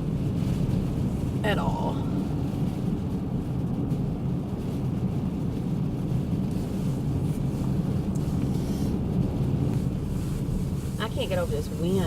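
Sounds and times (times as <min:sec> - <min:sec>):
car driving rumble: 0:00.0 - 0:12.0
wind blowing against car: 0:00.0 - 0:12.0.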